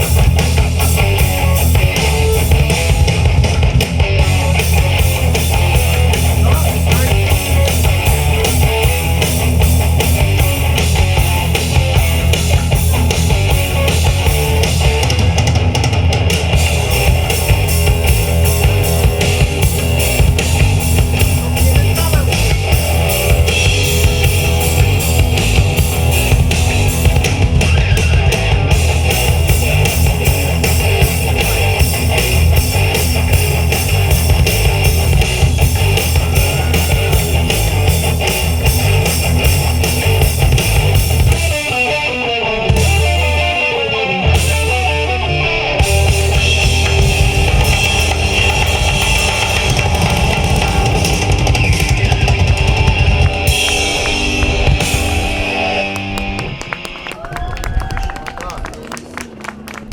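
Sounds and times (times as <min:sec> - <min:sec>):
drum kit: 0:00.0 - 0:57.9
bass guitar: 0:00.0 - 0:59.9
electric guitars: 0:00.0 - 0:59.9.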